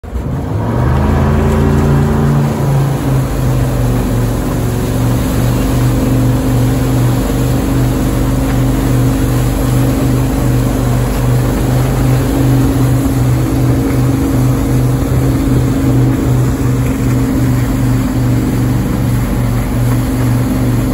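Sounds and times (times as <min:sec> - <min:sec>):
boat engine running: 0:00.0 - 0:20.9
water rushing: 0:00.0 - 0:20.9
wind: 0:00.0 - 0:20.9.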